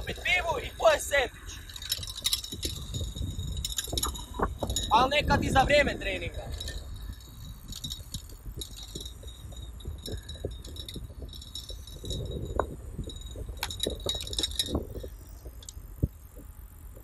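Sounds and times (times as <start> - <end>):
metallic jangling rattles: 0.0 - 15.9
wind and road rumble: 0.0 - 17.0.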